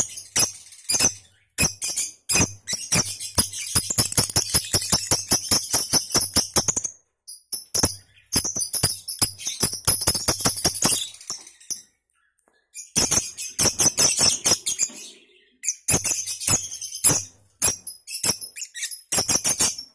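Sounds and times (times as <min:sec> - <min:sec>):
lovebird harsh chattering: 0:00.0 - 0:06.9, 0:07.6 - 0:11.8, 0:13.0 - 0:19.9.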